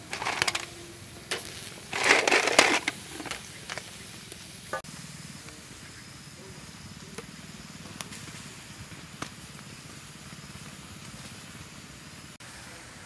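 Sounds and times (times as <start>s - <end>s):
snails sizzling on grill: 0.0s - 13.0s.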